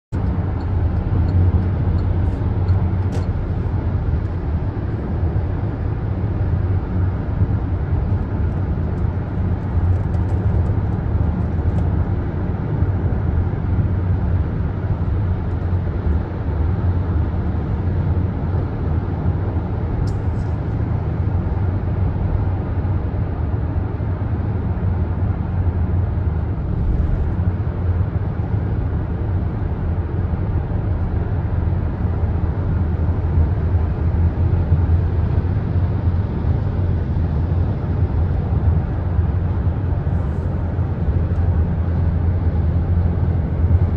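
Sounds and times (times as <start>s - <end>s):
road and tyre noise inside car: 0.1s - 43.9s.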